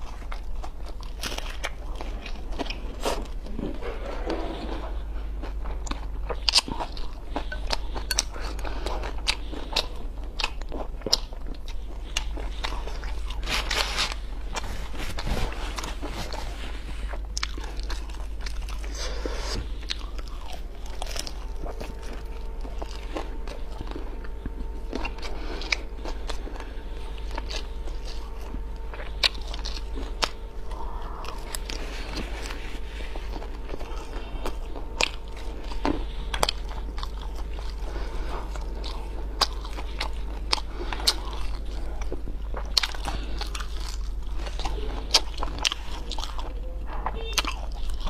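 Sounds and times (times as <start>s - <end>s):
biting and chewing noodles: 0.0s - 48.0s
faint steady hum: 0.0s - 48.0s.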